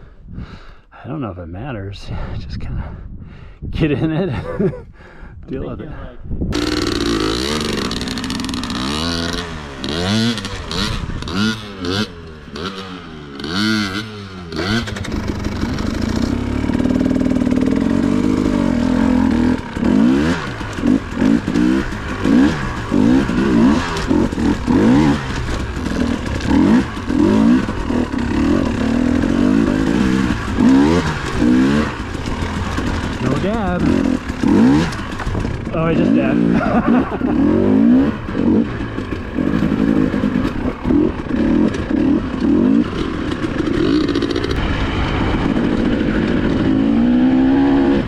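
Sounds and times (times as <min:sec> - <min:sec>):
dirt bike engine revving: 0:06.5 - 0:48.0.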